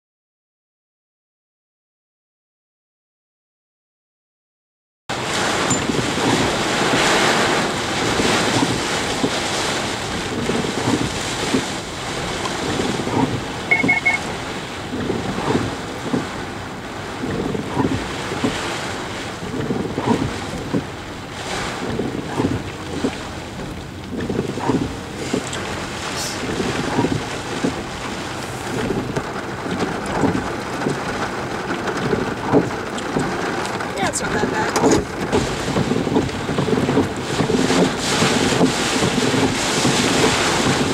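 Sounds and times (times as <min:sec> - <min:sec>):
heavy rain: 0:05.1 - 0:40.9
truck splashing through floodwater: 0:05.1 - 0:40.9
wind buffeting microphone: 0:05.1 - 0:40.9.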